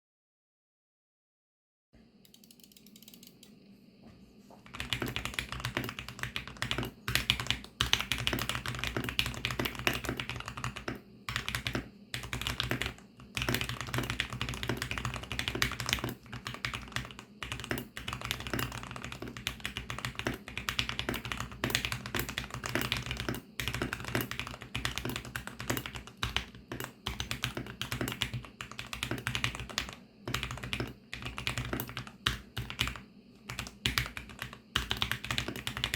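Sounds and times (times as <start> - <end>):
mechanical keyboard typing: 2.3 - 3.5, 4.7 - 35.9.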